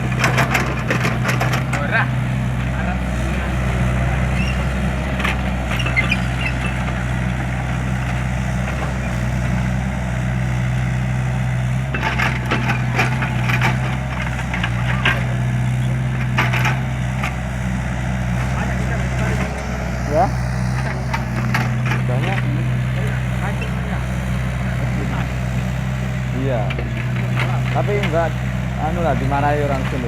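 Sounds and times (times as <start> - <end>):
large engine idling: 0.0 - 30.0.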